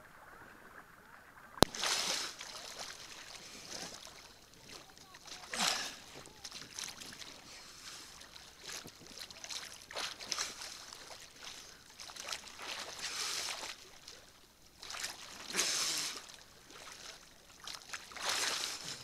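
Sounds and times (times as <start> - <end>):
small waves lapping: 0.0 - 19.0.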